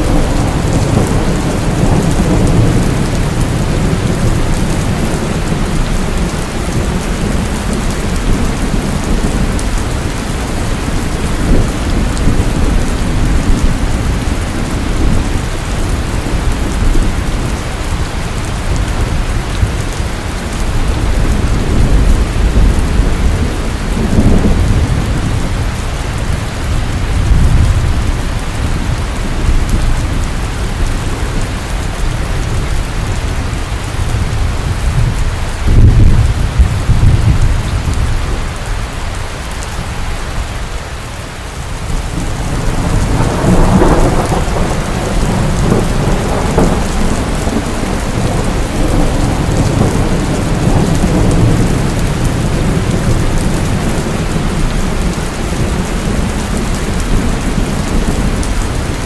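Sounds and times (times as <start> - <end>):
heavy rain: 0.0 - 59.0
thunder rumbling: 0.0 - 59.0.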